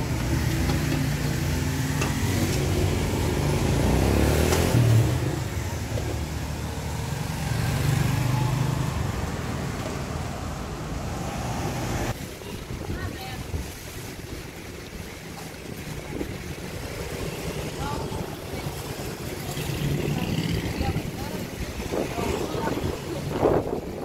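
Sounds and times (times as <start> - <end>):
passing vehicle engines rumbling: 0.0 - 12.2, 14.6 - 24.0.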